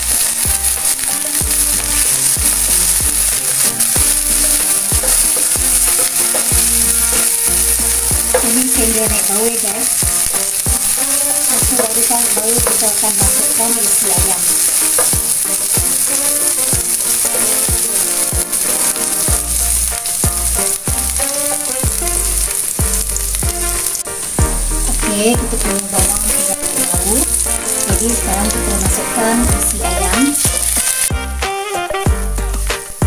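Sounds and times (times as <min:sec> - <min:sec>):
onion sizzling in hot oil: 0:00.0 - 0:33.0
spatula scraping and knocking pan: 0:00.0 - 0:33.0.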